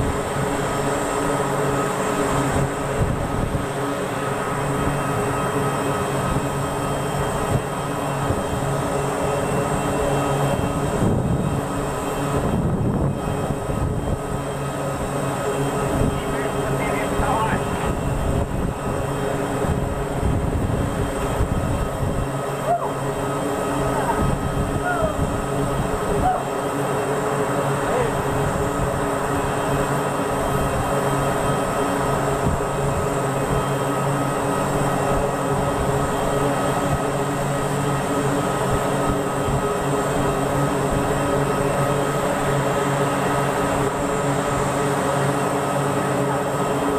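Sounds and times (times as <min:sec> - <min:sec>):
turboprop engines droning: 0:00.0 - 0:46.9.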